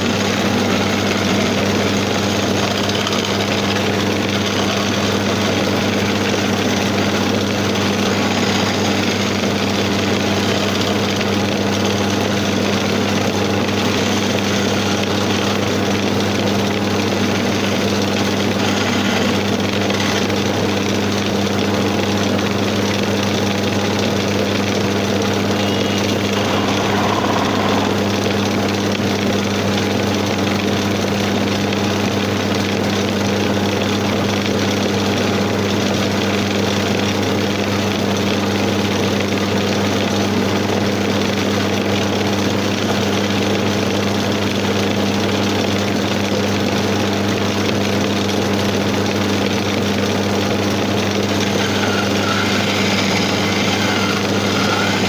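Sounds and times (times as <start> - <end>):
wood lathe motor humming: 0.0 - 40.2, 41.2 - 55.0.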